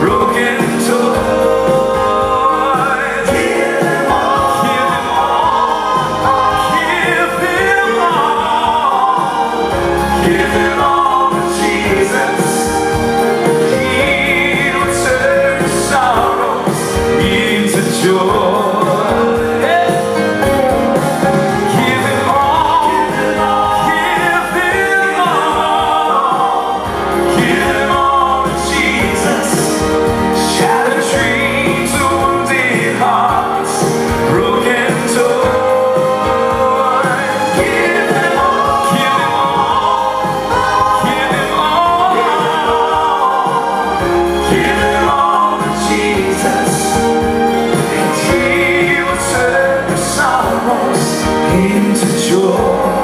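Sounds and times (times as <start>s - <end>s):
men singing in harmony: 0.0s - 53.0s.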